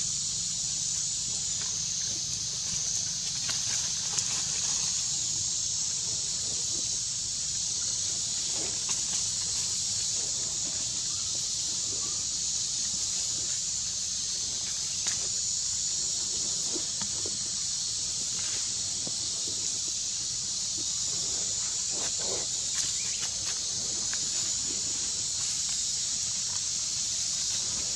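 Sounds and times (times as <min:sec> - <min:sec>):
insect chorus: 0:00.0 - 0:27.9.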